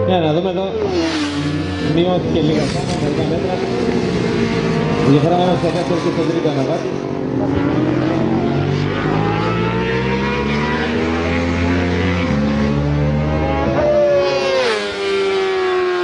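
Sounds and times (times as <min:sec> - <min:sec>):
racing motorcycle engines revving: 0:00.0 - 0:16.0.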